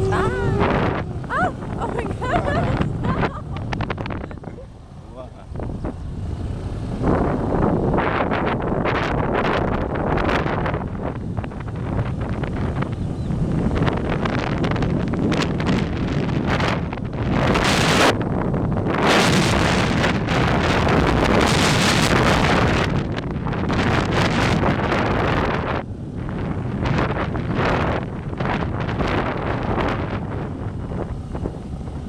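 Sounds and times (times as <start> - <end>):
motorcycle ride rumble: 0.0 - 32.0
wind buffeting microphone: 0.0 - 32.0.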